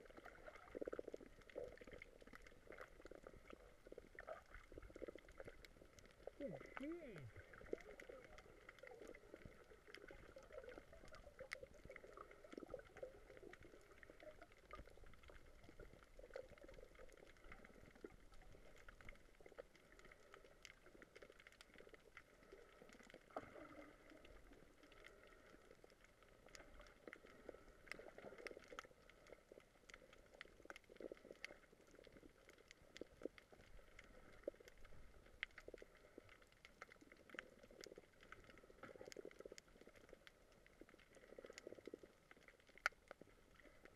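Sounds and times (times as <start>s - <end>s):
muffled underwater hiss: 0.0s - 43.9s
small underwater clicks: 0.0s - 43.9s.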